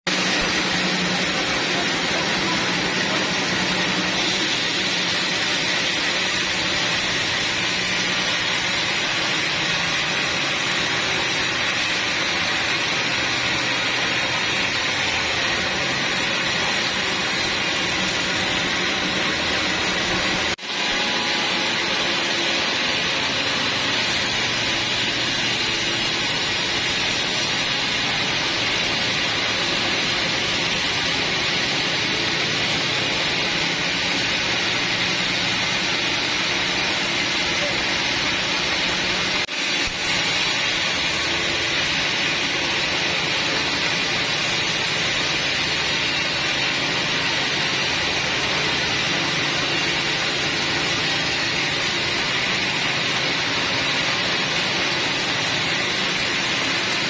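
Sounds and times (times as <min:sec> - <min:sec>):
sawmill saw whirring: 0:00.0 - 0:57.0.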